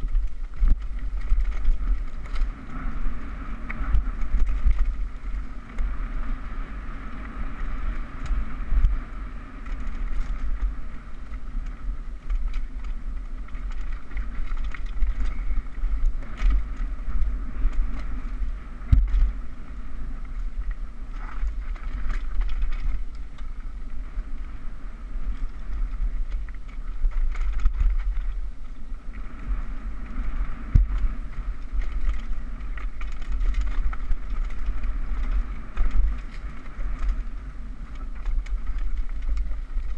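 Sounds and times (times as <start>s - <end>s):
bike rattling: 0.0s - 39.9s
tyres rumbling over dirt: 0.0s - 39.9s
wind buffeting microphone: 0.0s - 39.9s.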